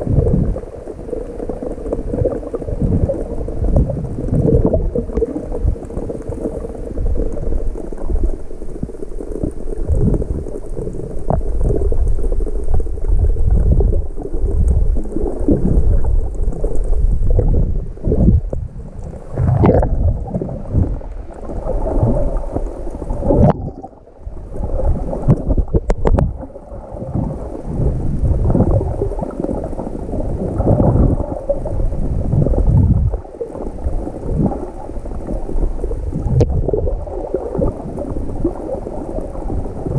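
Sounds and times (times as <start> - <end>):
muffled underwater sloshing: 0.0 - 39.9
water splashes: 0.0 - 39.9.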